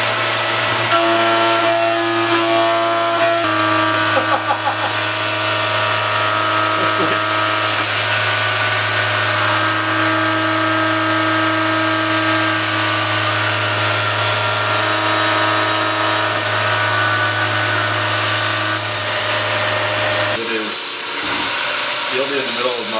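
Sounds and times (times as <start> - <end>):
milling machine hum and whine: 0.0 - 22.9.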